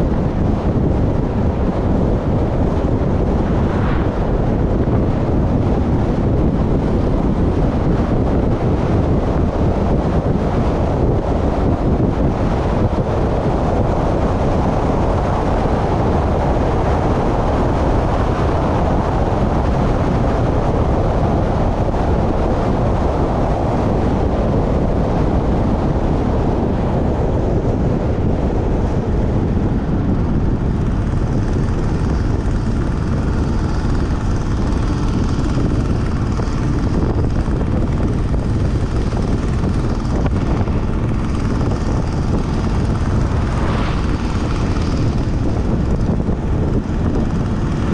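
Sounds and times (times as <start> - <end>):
vehicle road rumble: 0.0 - 47.9
wind rushing over microphone: 0.0 - 47.9.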